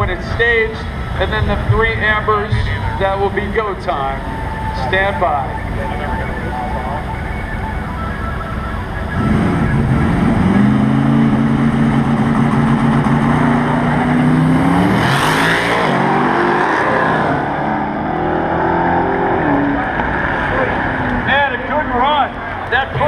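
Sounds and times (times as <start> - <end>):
car engines at full throttle: 0.0 - 23.0.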